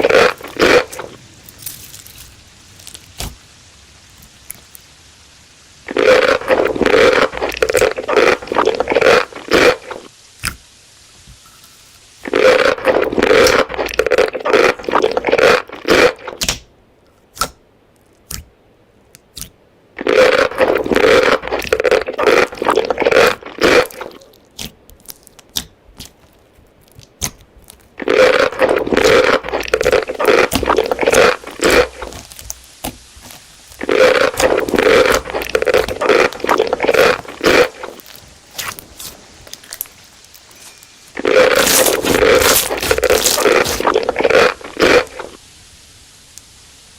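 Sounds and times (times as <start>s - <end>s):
chewing crunchy food: 0.0s - 3.4s, 5.9s - 10.1s, 12.2s - 16.4s, 19.4s - 45.4s.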